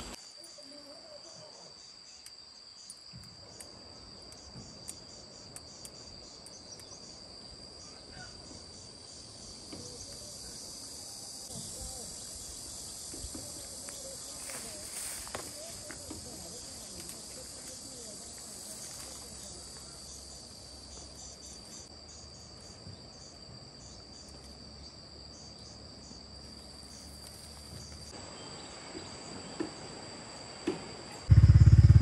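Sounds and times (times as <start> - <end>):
pulsing insect trill: 0.0 - 30.5, 31.2 - 32.0
insects chirring: 0.0 - 32.0.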